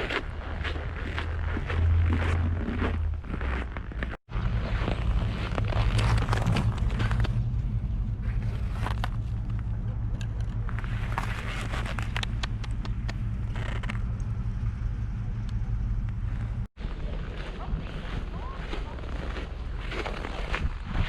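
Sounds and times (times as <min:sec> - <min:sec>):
crackling crunches: 0:00.0 - 0:21.0
low street rumble: 0:00.0 - 0:21.0.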